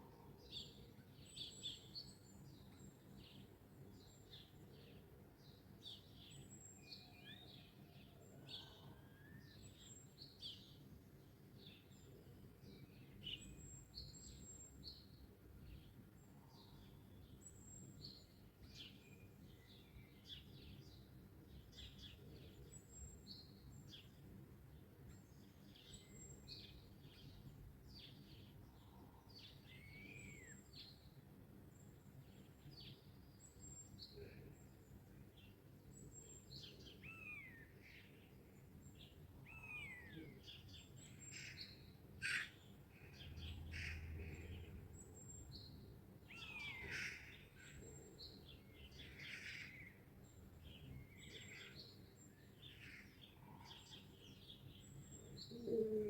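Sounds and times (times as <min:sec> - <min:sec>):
songbirds chirping and whistling: 0:00.5 - 0:24.1, 0:24.8 - 0:56.0.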